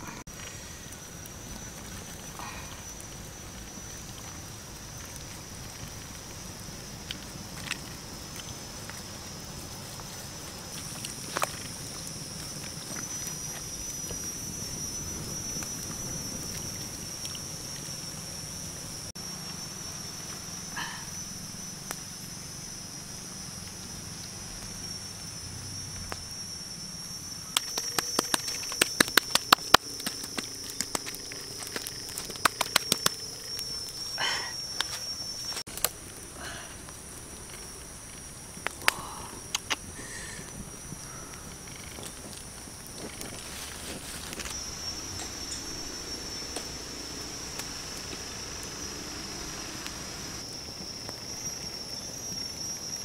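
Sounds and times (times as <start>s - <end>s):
insect chorus drone: 0.0s - 53.0s.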